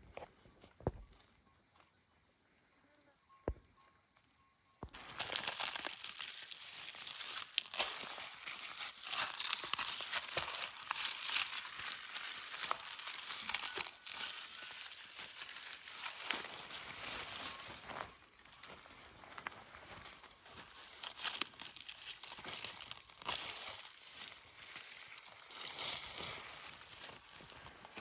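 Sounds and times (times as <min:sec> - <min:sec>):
dense crackling and rustling: 0:05.0 - 0:28.0.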